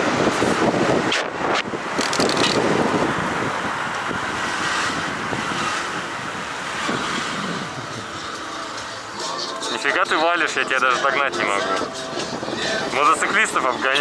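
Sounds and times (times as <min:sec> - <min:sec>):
wind rushing over microphone: 0:00.0 - 0:08.9, 0:10.7 - 0:14.0
road noise: 0:00.0 - 0:14.0.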